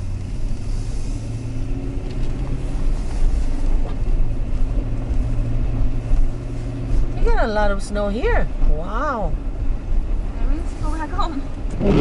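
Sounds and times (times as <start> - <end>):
engine and road hum in car: 0.0 - 12.0.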